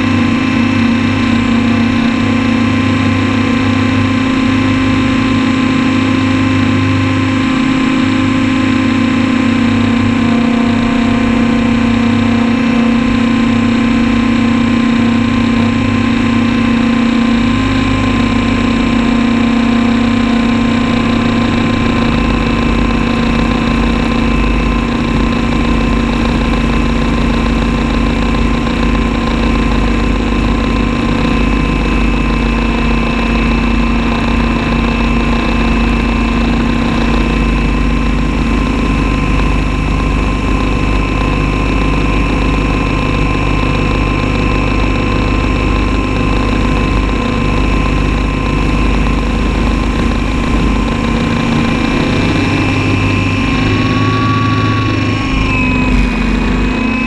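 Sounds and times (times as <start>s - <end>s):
model aircraft engine running: 0.0s - 57.0s.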